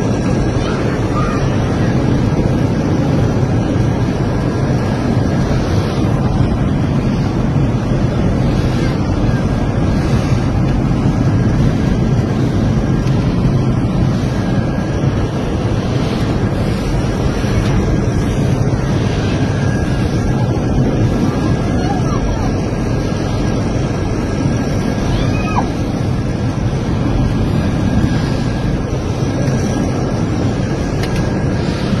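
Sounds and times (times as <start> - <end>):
airliner cabin engine roar: 0.0 - 32.0
rushing air: 0.0 - 32.0.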